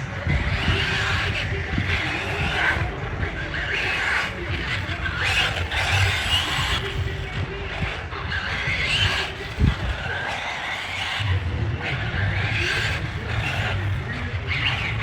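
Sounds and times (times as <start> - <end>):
electric motor whine: 0.0 - 15.0
tyres skidding: 0.0 - 15.0.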